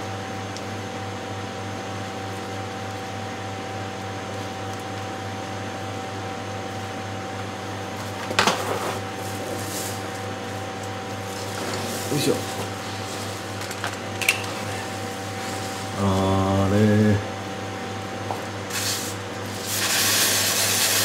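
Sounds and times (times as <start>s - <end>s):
electric fan humming: 0.0s - 21.0s.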